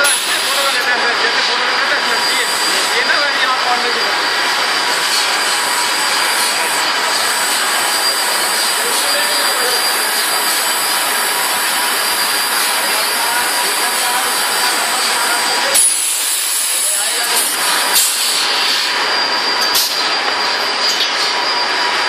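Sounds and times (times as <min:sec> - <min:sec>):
machine hissing: 0:00.0 - 0:22.0
faint high whines: 0:01.9 - 0:22.0.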